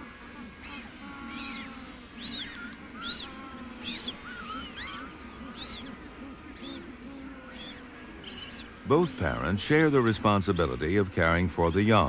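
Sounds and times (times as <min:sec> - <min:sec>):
penguin chicks peeping: 0:00.2 - 0:12.0.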